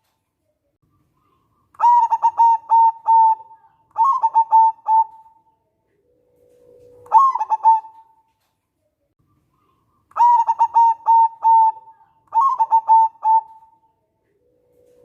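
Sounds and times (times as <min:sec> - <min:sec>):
dove cooing: 0:01.3 - 0:08.2, 0:09.6 - 0:15.0.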